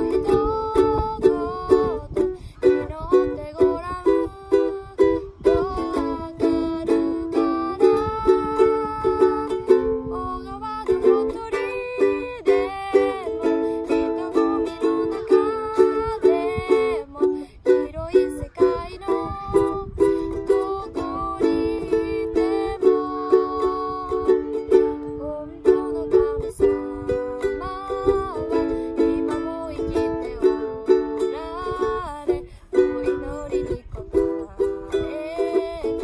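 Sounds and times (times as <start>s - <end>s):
girl singing a hymn: 0.0s - 36.0s
ukulele strumming: 0.0s - 36.0s.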